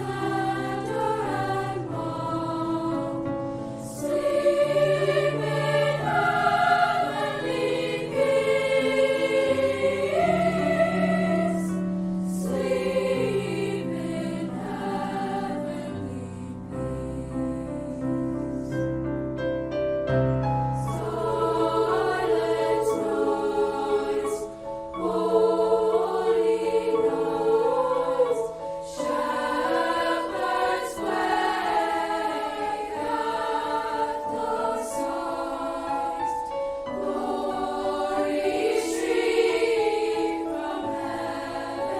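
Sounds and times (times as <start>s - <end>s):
choir singing: 0.0s - 18.8s, 20.8s - 41.9s.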